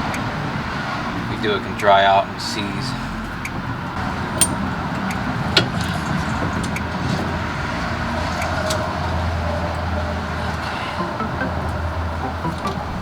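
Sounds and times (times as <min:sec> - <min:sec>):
road traffic with low hum: 0:00.0 - 0:13.0.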